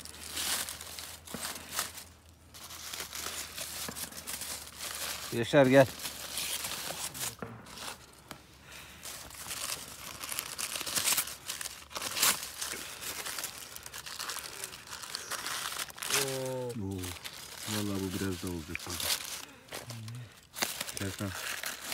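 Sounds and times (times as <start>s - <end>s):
foil and paper crinkling: 0.0s - 21.9s.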